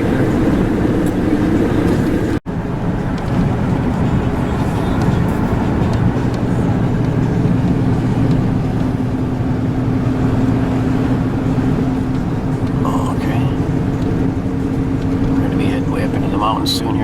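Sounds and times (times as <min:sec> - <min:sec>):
truck engine and tyres droning: 0:00.0 - 0:17.0.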